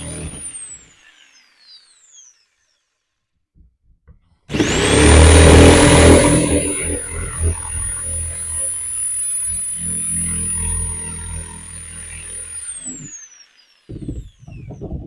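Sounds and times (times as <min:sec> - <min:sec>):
jigsaw motor whine: 0:00.0 - 0:02.3, 0:04.5 - 0:15.0.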